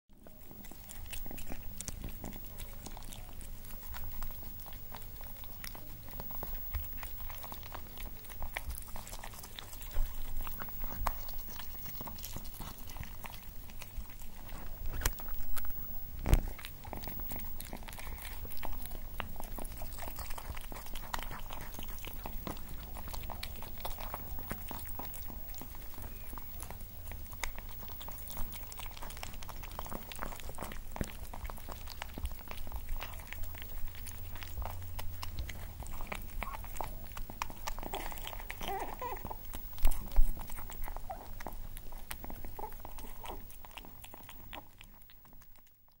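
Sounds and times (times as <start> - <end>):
cats chewing wetly: 0.1 - 46.0.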